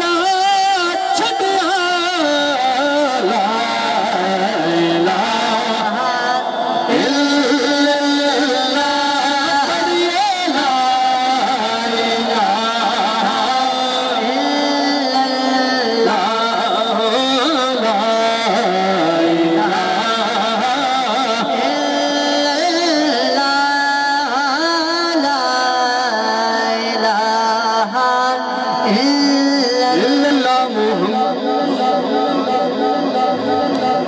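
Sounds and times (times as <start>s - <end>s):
man singing into a microphone: 0.0s - 34.0s.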